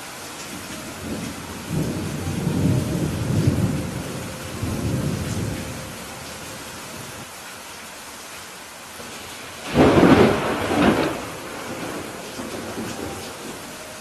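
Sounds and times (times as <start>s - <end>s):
steady rain: 0.0s - 14.0s
thunder rumbling: 0.6s - 7.2s, 9.1s - 14.0s.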